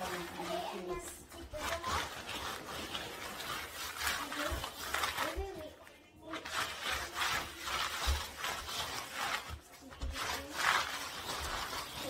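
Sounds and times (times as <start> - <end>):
cloth scrubbing tent floor: 0.0 - 5.6, 6.2 - 12.0
fabric crinkling: 0.0 - 12.0.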